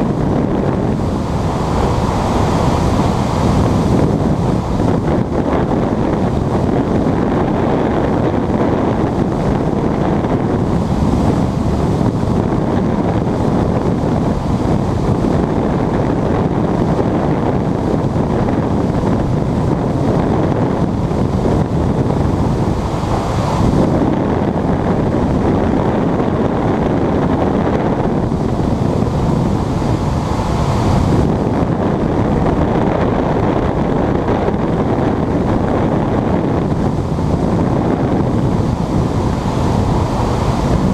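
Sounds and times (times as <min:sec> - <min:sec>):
airflow buffeting microphone: 0:00.0 - 0:40.9.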